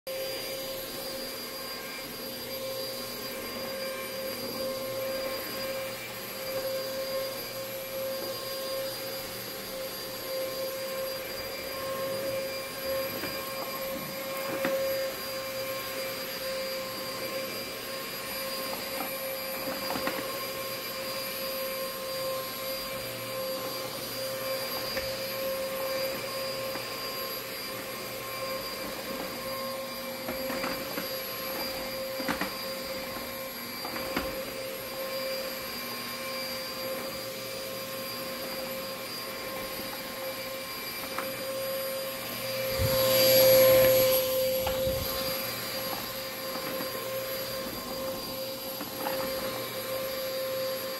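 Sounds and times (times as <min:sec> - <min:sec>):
vacuum cleaner running: 0:00.1 - 0:50.9.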